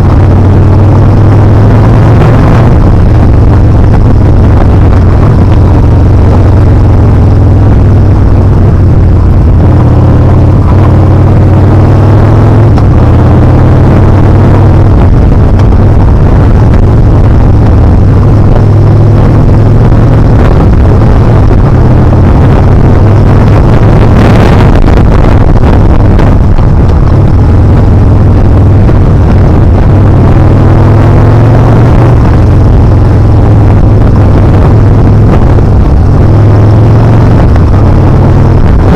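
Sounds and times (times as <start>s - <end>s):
burst of noise: 0.0s - 38.9s
motorcycle engine running: 0.0s - 38.9s
wind rush on microphone: 0.0s - 38.9s.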